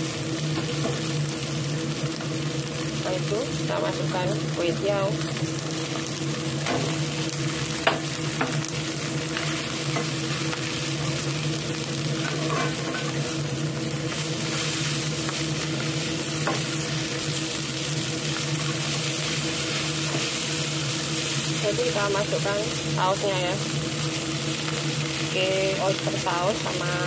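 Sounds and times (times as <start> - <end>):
noodles sizzling in hot oil: 0.0 - 27.0.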